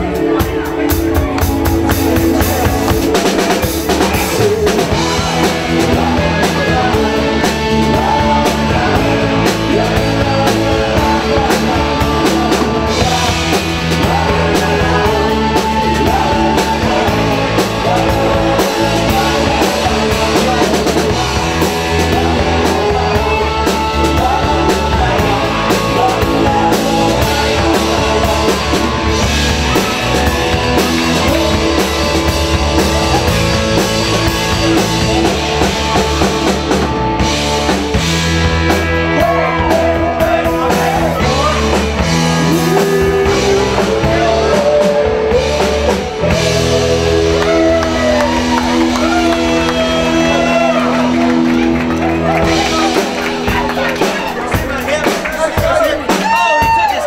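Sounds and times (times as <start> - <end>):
bass guitar: 0.0 - 57.0
drum kit beat: 0.0 - 57.0
electric guitar: 0.0 - 57.0.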